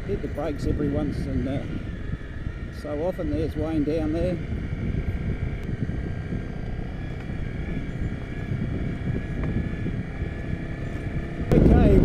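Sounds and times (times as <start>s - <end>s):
motorcycle engine braking: 0.0s - 12.0s
wind noise on microphone: 0.0s - 12.0s.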